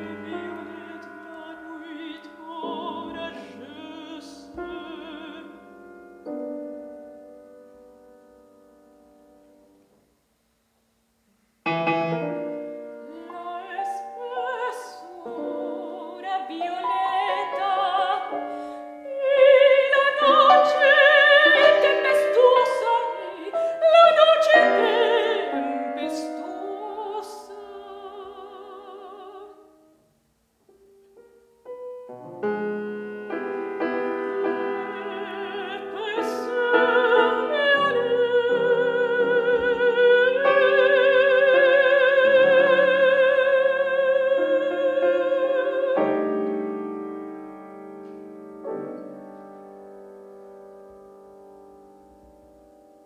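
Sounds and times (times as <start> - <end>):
soprano singing: 0.0 - 9.8, 11.7 - 30.0, 31.0 - 53.0
piano chords: 0.0 - 10.0, 11.6 - 30.0, 30.7 - 53.0.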